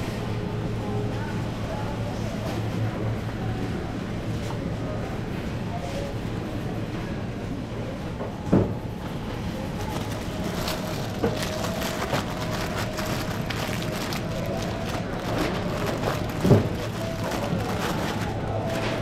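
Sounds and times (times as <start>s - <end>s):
background hum and rumble: 0.0s - 19.0s.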